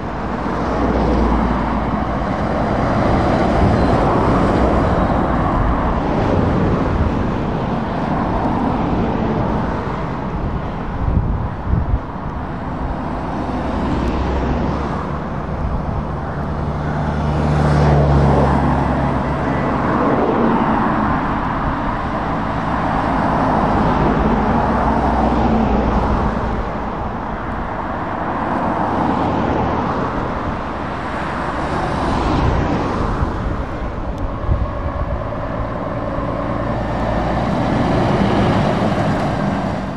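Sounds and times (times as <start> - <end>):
road traffic passing: 0.0 - 39.9
truck engine drone: 0.0 - 39.9.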